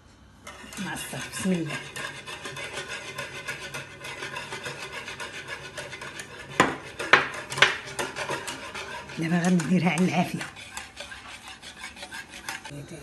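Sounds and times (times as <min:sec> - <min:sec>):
whisk scraping a saucepan: 0:00.4 - 0:12.8.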